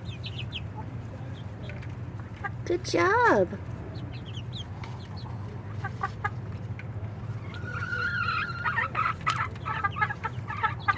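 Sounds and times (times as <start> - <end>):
hens clucking: 0.0 - 2.7, 3.7 - 10.9
low steady hum: 0.0 - 10.9.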